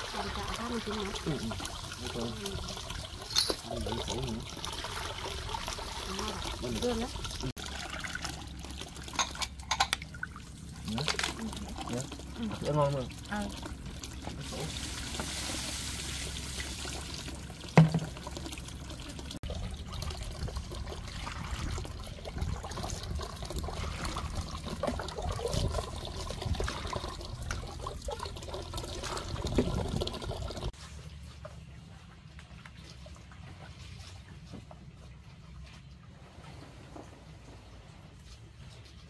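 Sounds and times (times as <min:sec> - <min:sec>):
water pouring and splashing: 0:00.0 - 0:39.0.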